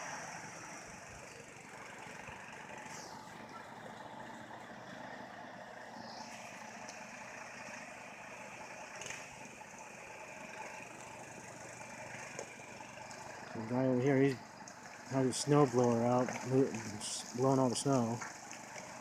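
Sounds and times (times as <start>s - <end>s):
faint truck engine running: 0.0s - 19.0s.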